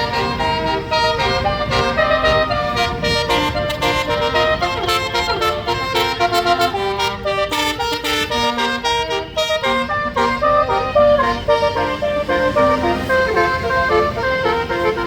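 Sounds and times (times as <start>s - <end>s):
bus horn playing melody: 0.0s - 15.0s
bus rumble: 0.0s - 15.0s.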